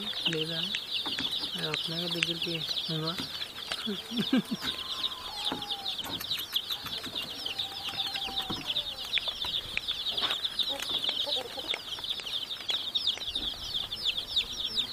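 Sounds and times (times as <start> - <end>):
baby chicks peeping: 0.0 - 14.9.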